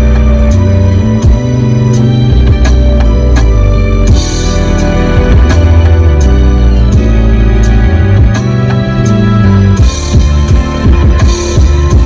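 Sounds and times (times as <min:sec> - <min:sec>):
music with heavy bass and beat: 0:00.0 - 0:12.0.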